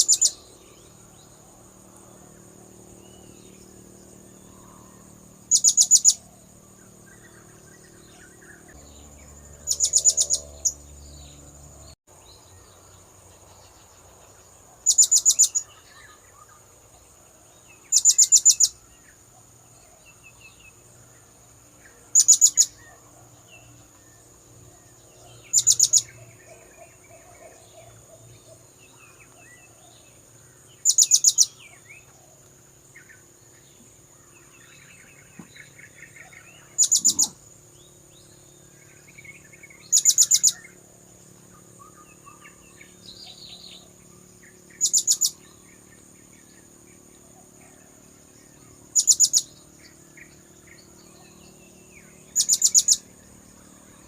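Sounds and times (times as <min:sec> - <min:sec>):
other birds chirping: 0:00.0 - 0:54.0.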